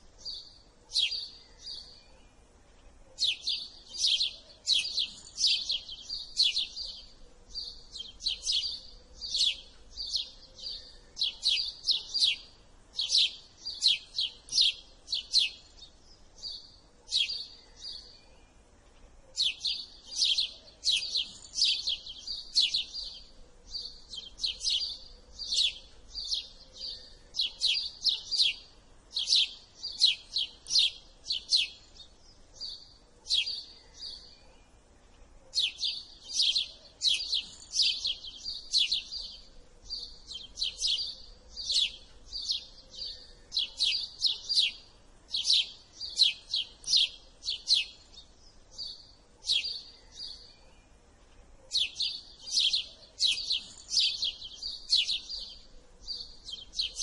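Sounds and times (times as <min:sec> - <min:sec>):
sparrow chirping: 0:00.0 - 0:57.0.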